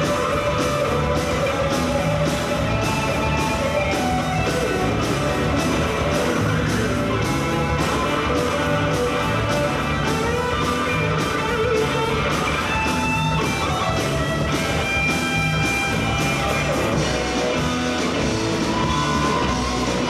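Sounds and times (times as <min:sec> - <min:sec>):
electric guitar lead notes: 0:00.0 - 0:20.0
rock band playing: 0:00.0 - 0:20.0.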